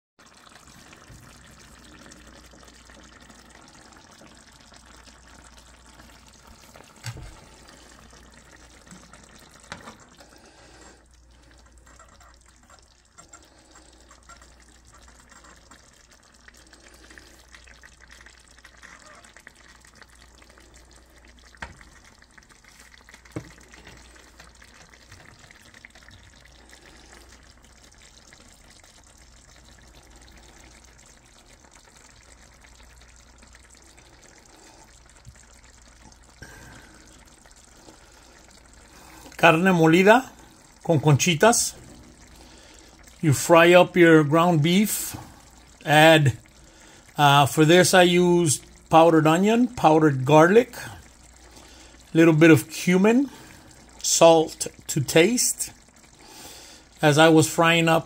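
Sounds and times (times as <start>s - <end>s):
soup simmering and bubbling: 0.2s - 58.0s.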